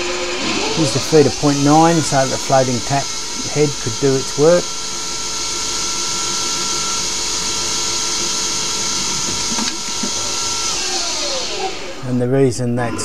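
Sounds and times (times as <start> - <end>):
high hiss of metal cutting: 0.0 - 12.2
lathe spindle whine: 0.0 - 13.0.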